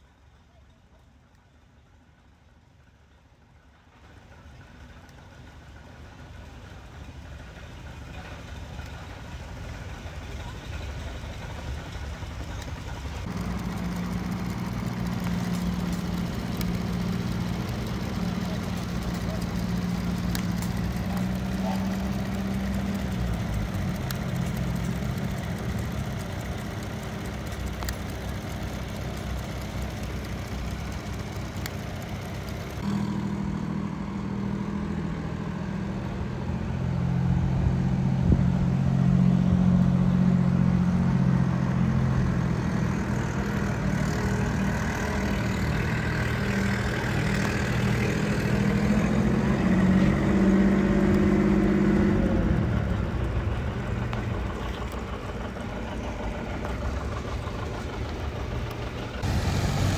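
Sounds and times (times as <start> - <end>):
tractor engines idling: 0.0 - 59.9.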